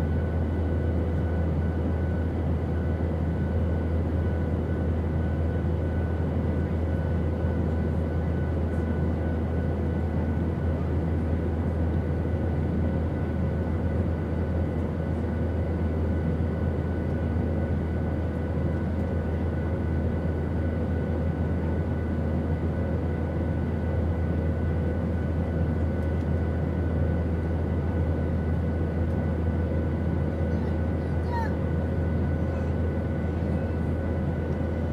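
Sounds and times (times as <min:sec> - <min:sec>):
airplane engine drone: 0:00.0 - 0:34.9.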